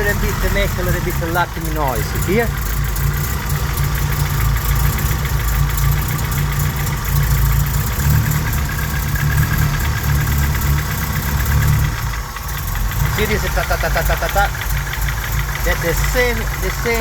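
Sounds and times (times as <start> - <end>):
car engine idling: 0.0 - 17.0
light rhythmic engine knock: 0.0 - 17.0.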